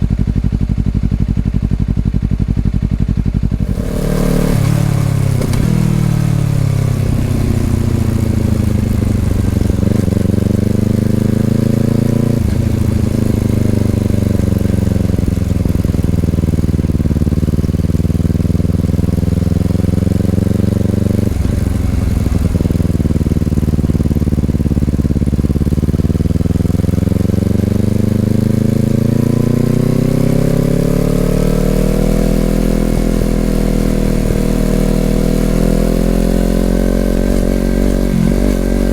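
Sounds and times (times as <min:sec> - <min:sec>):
motorcycle engine exhaust note: 0:00.0 - 0:38.9.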